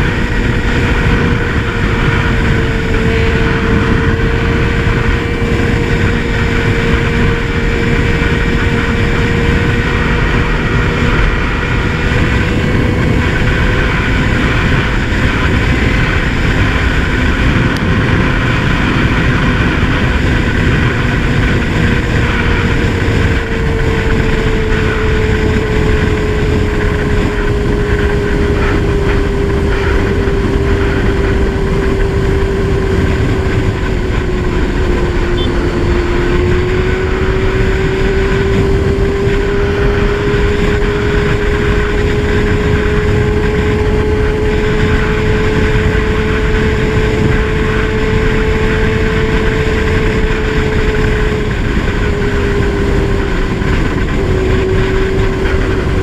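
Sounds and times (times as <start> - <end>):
motorcycle engine cruising: 0.0 - 56.0
wind and road rumble: 0.0 - 56.0.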